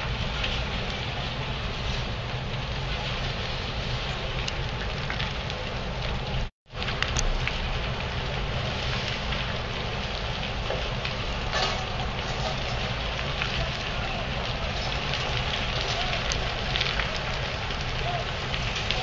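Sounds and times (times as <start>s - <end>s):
fire crackling and hissing: 0.0s - 19.0s
wind rumble on microphone: 0.0s - 19.0s.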